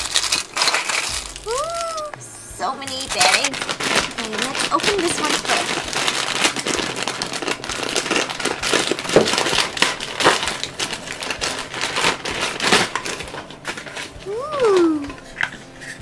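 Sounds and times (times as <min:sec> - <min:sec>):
plastic bag crinkling: 0:00.0 - 0:02.1, 0:02.8 - 0:16.0.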